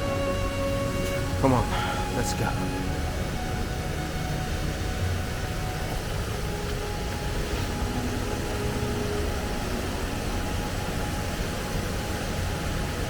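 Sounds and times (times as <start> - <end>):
stream and waterfall rushing: 0.0 - 13.0.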